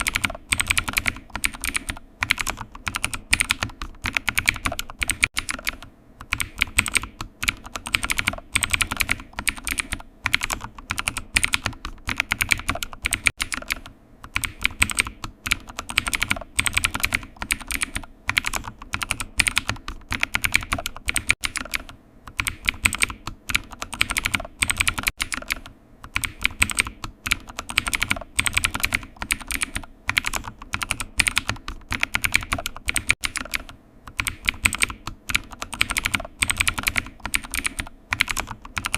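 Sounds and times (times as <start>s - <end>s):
computer keyboard typing: 0.0s - 38.9s.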